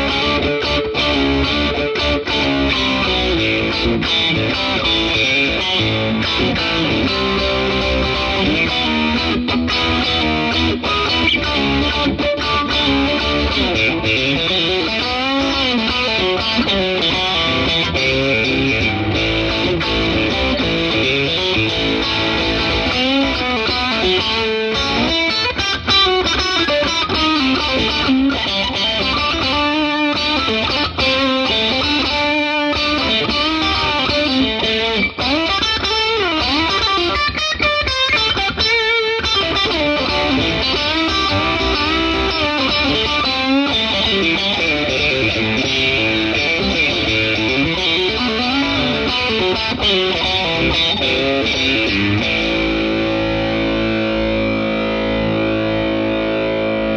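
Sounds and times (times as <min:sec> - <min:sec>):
overdriven electric guitar lead: 0:00.0 - 0:56.9.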